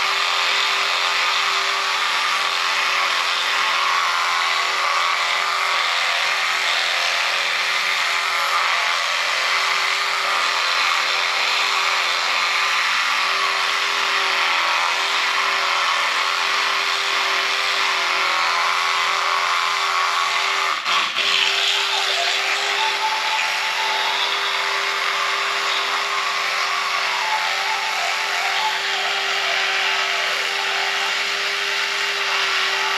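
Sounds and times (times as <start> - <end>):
electric toothbrush humming: 0.0 - 32.9.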